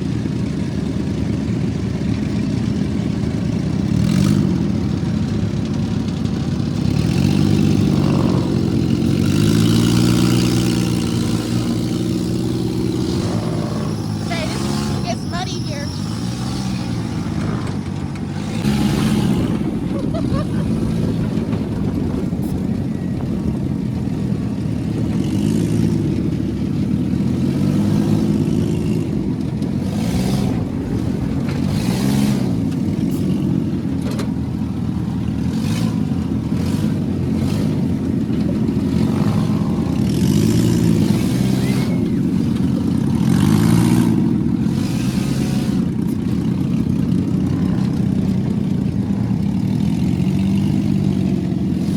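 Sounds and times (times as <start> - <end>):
vehicle engine revving: 0.0 - 51.9.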